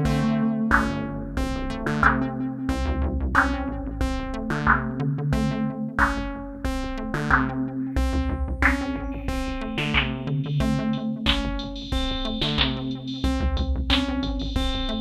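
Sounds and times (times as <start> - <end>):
bright synth notes: 0.0 - 13.5
drum module hits: 0.0 - 15.0
low bass line: 0.0 - 15.0.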